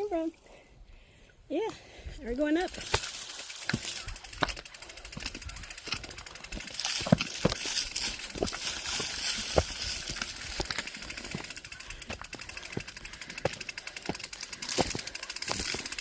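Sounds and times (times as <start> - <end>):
bike knocks and rattles: 2.7 - 16.0.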